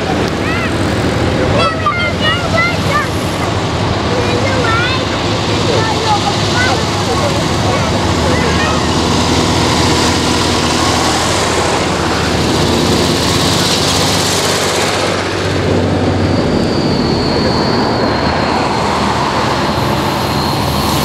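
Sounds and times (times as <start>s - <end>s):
distant tractors droning: 0.0s - 21.0s
tractor engine driving past: 0.0s - 21.0s.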